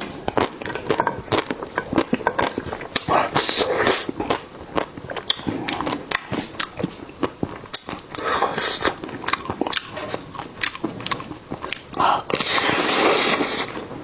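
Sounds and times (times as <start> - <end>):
person biting and chewing: 0.0 - 13.9.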